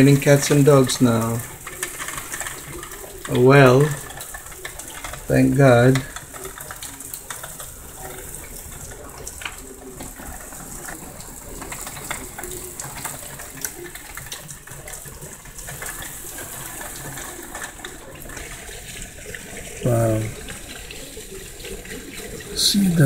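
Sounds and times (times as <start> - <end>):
heavy rain downpour: 0.0 - 23.0.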